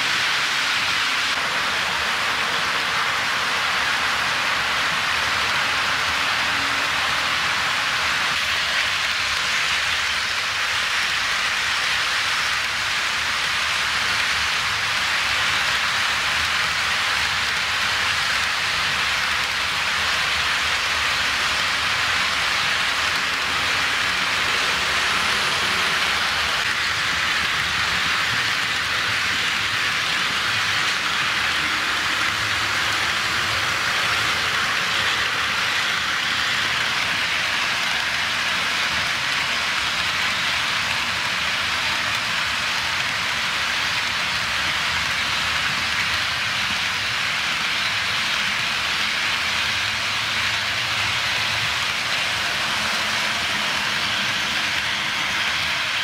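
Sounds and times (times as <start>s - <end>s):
model train wheels rolling: 0.0s - 56.0s.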